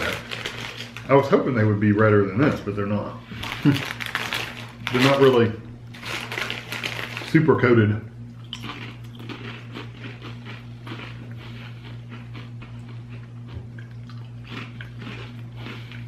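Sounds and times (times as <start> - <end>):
tortilla chips crunching: 0.0 - 1.3, 3.3 - 7.5, 8.4 - 16.0
low electrical hum: 0.0 - 16.0.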